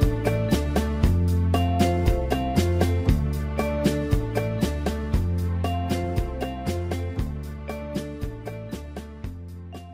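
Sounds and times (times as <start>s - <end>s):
instrumental backing track: 0.0s - 9.9s.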